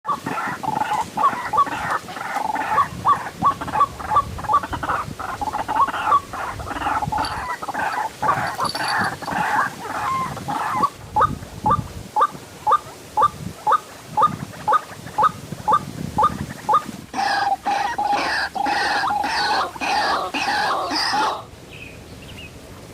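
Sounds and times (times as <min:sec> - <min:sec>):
waterhens croaking calls: 0:00.1 - 0:21.5
continuous bird chorus: 0:00.1 - 0:22.6.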